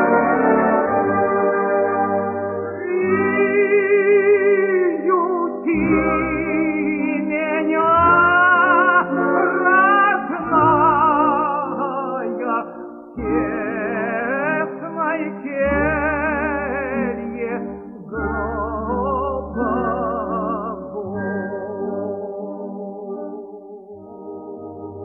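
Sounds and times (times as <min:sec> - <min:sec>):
operatic tenor singing with vibrato: 0:02.8 - 0:23.4.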